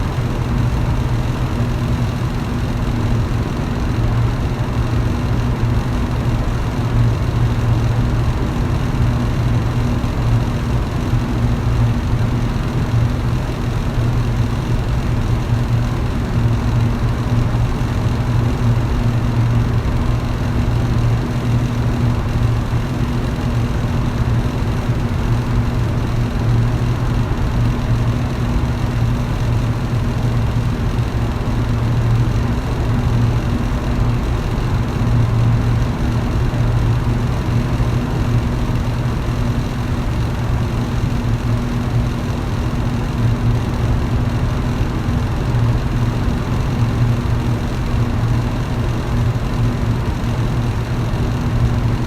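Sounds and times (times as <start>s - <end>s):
electric fan motor hum: 0.0s - 52.0s
rush of air from fan blades: 0.0s - 52.0s.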